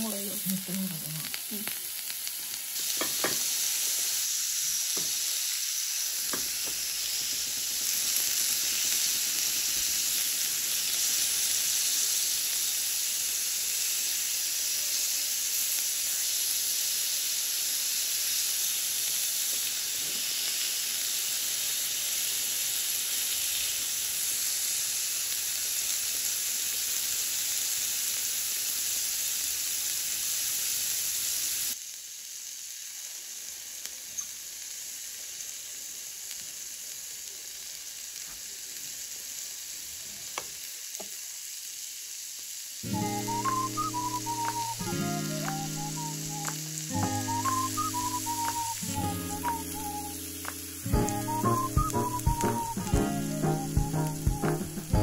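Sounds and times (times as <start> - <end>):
steak sizzling on a griddle: 0.0 - 55.0.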